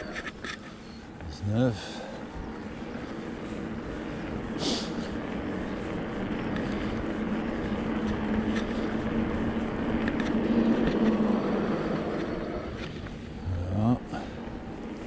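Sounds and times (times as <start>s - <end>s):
bike riding noise rush: 0.0s - 15.0s.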